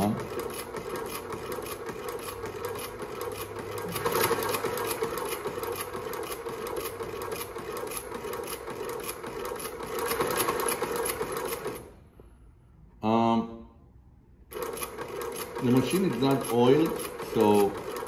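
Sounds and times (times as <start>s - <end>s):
sewing machine stitching leather: 0.0s - 12.0s, 14.5s - 18.0s.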